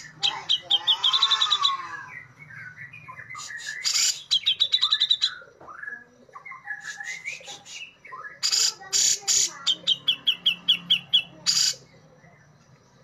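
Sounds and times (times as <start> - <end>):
bird singing chirps and whistles: 0.0 - 11.8.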